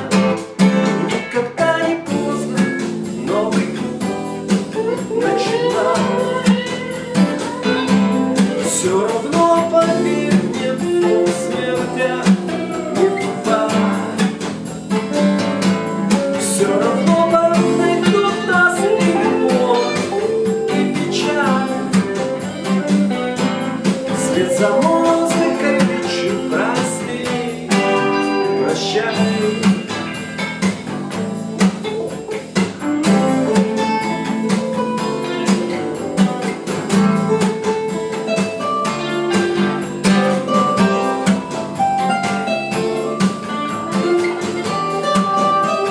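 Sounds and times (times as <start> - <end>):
acoustic guitar strumming: 0.0 - 45.9
backing track through small speaker: 0.0 - 45.9.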